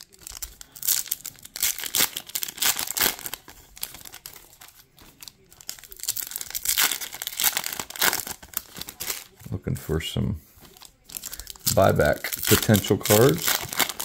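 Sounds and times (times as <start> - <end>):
foil wrappers tearing and crinkling: 0.0 - 9.4, 10.6 - 14.0.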